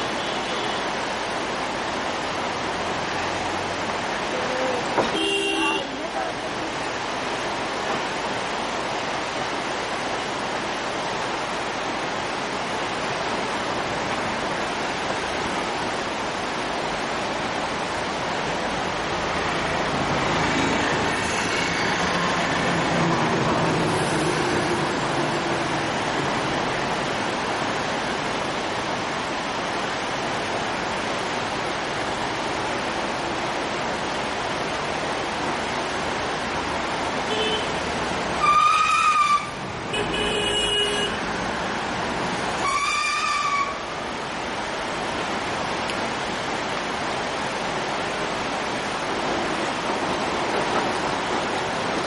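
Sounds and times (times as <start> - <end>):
white-water rapids rushing: 0.0 - 52.0.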